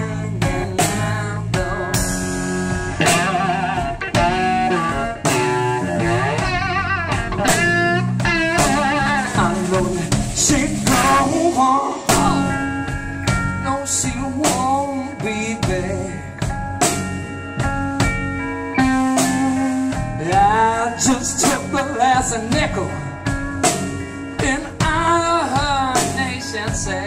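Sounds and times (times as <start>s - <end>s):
drums: 0.0s - 27.0s
electric guitar lead: 0.0s - 27.0s.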